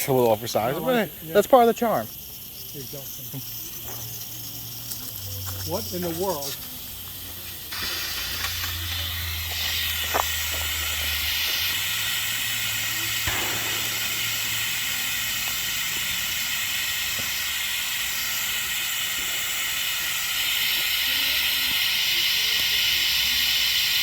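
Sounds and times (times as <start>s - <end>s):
steam hissing from boiler: 0.0s - 24.0s.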